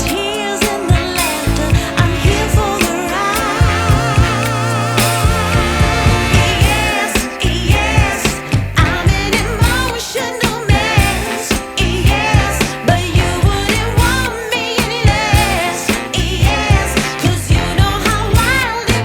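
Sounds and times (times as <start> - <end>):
pop music with woman singing: 0.0 - 19.0
steady drum beat: 0.0 - 19.0.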